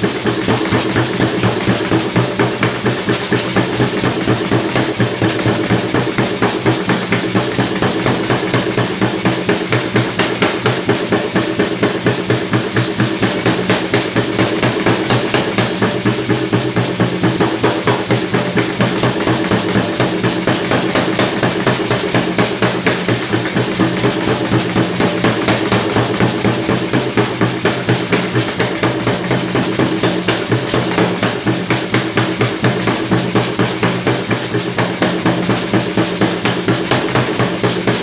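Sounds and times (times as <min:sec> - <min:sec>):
power hammer striking steel: 0:00.0 - 0:38.0
steady hum: 0:00.0 - 0:38.0.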